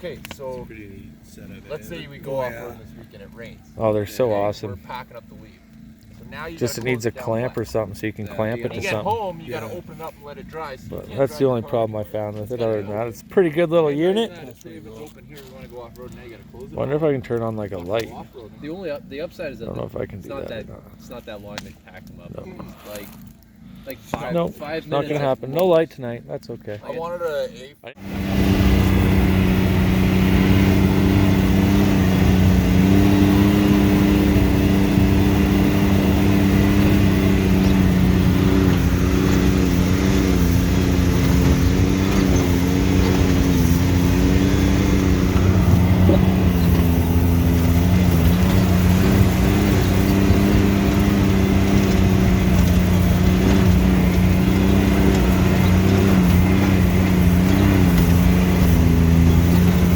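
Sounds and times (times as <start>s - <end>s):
vehicle engine humming: 0.0s - 25.5s, 27.9s - 59.9s.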